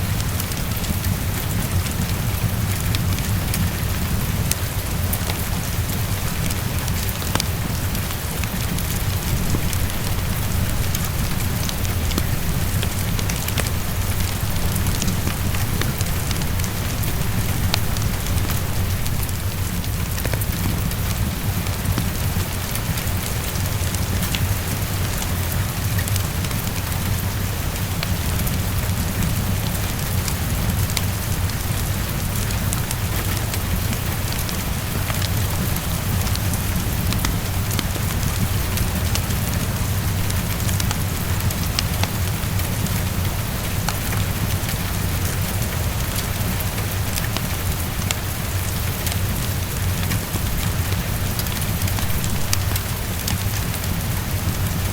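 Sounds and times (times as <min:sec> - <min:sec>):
heavy rain against a window: 0:00.0 - 0:54.9.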